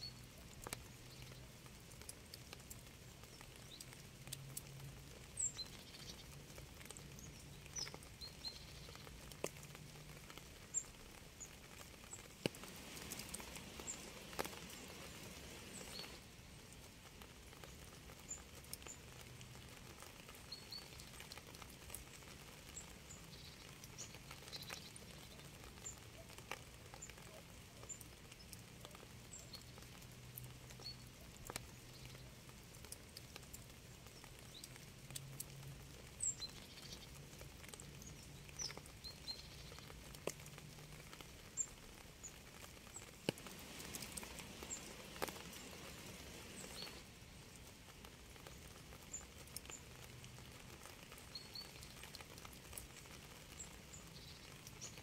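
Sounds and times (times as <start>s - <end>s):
rain drops tapping: 0.0s - 55.0s
soft rain patter: 0.0s - 55.0s.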